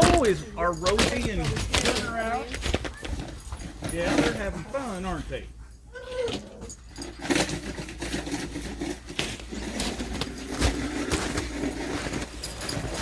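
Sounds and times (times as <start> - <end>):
dogs scuffling: 0.0 - 13.0.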